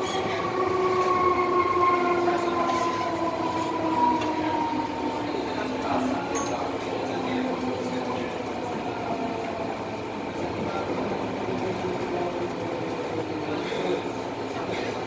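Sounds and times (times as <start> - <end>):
train wheels on track: 0.0 - 15.0.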